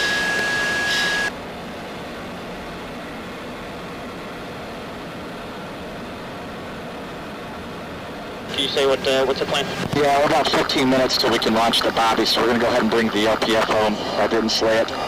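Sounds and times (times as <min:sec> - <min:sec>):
steady tone with pulsing hiss: 0:00.0 - 0:15.0.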